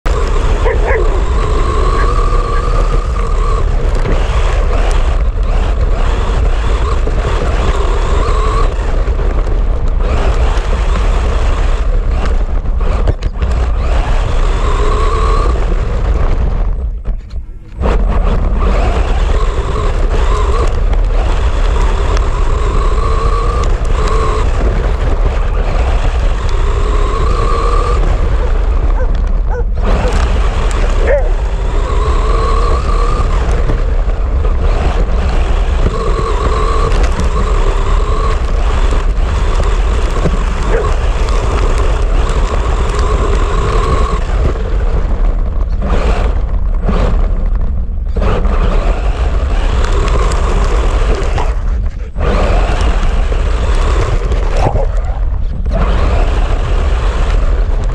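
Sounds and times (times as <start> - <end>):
heavy low rumble: 0.0 - 57.9
toy car electric motor whining: 0.0 - 57.9.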